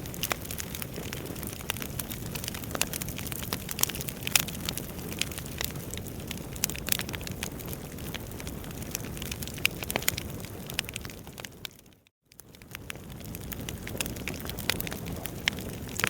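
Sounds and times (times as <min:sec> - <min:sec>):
burning logs crackling and popping: 0:00.0 - 0:16.0
fire flames rumbling: 0:00.0 - 0:16.0.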